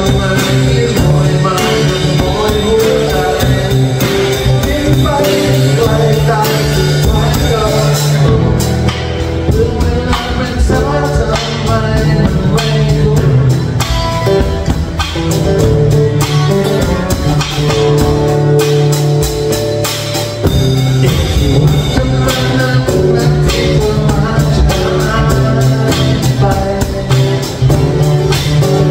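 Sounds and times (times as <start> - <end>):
man singing into microphone: 0.0 - 14.0, 15.2 - 19.0, 20.9 - 28.9
acoustic guitars strummed: 0.0 - 28.9
drum kit steady beat: 0.0 - 28.9.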